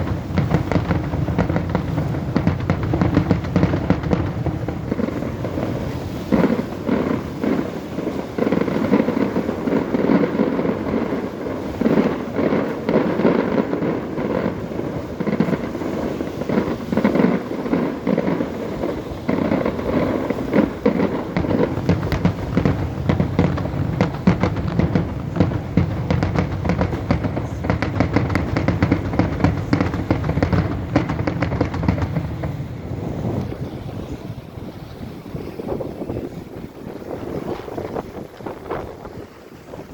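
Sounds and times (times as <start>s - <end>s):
fireworks rapid crackle: 0.0s - 34.7s, 35.3s - 39.9s
fireworks bangs and cracks: 0.0s - 39.9s.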